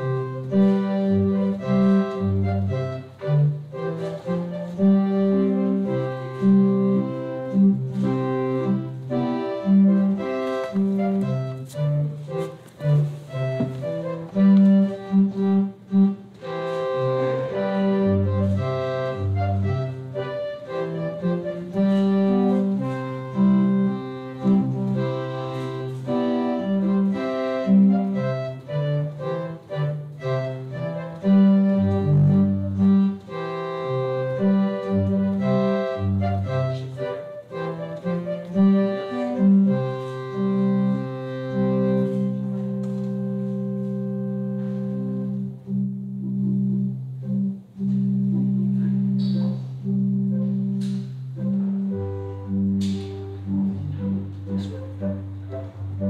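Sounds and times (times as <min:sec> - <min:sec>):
organ playing: 0:00.0 - 0:56.0.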